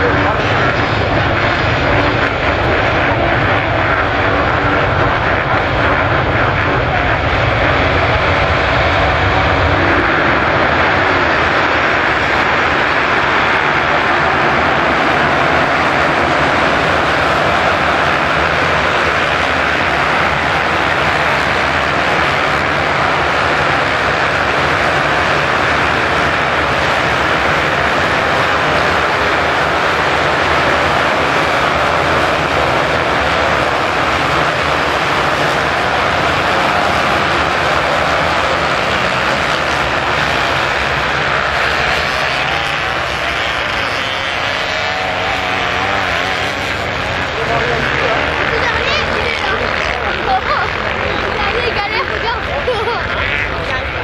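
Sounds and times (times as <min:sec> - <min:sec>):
motocross bike engines revving: 0:00.0 - 0:54.0.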